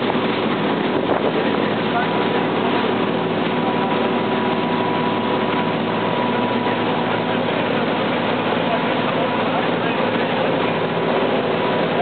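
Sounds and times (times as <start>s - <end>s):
motorboat engine running: 0.0s - 12.0s
water rushing in wake: 0.0s - 12.0s.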